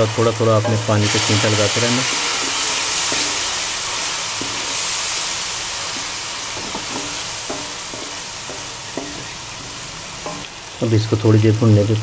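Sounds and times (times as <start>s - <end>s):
masala sizzling in hot oil: 0.0s - 12.0s
spatula scraping pan: 0.6s - 10.5s.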